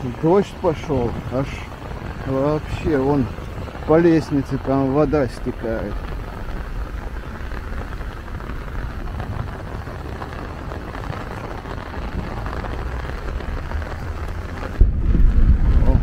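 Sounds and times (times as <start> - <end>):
heavy rain on an umbrella: 0.0 - 16.0
low rumble: 0.0 - 16.0.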